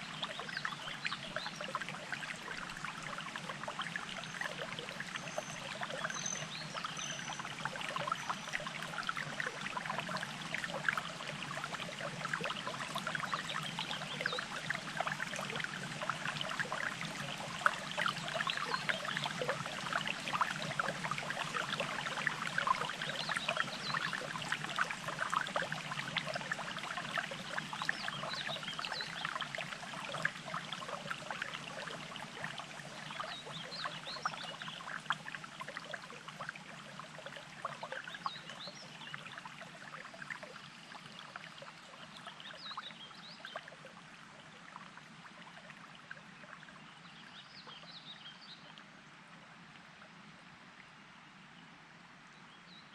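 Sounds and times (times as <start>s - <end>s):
stream trickling over rocks: 0.0s - 52.9s.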